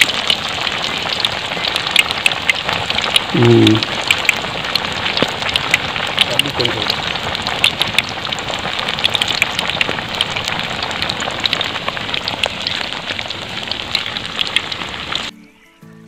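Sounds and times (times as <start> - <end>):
fish sizzling in hot oil: 0.0 - 15.3.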